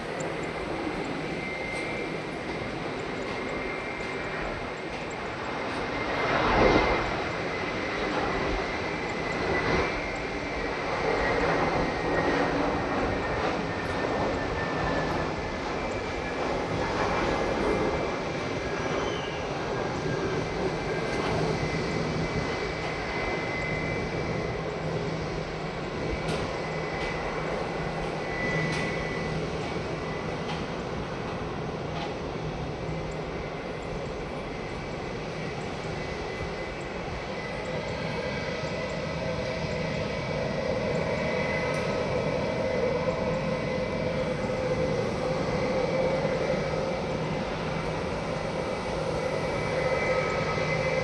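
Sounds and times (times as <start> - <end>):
jet engine rushing with whine: 0.0 - 51.0.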